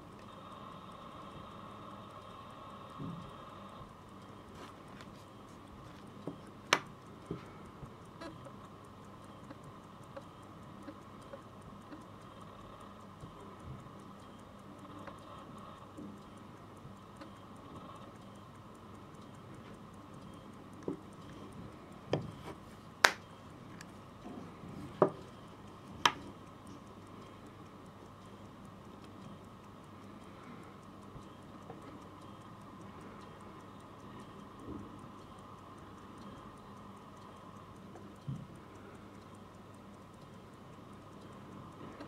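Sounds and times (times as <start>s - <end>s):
pocket watch ticking: 0.0s - 42.0s.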